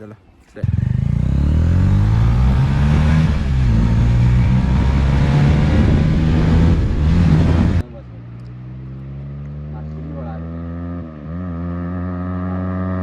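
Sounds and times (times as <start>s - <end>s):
motorcycle revving past: 0.6s - 7.8s, 8.6s - 13.0s.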